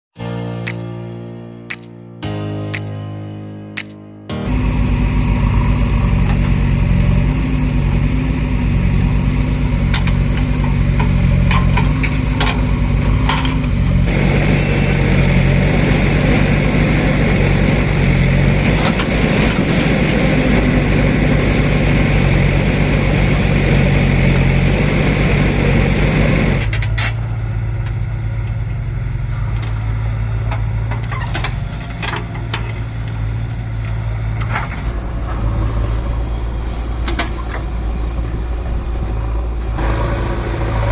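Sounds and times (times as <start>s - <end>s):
heavy diesel engines running: 3.8s - 40.9s.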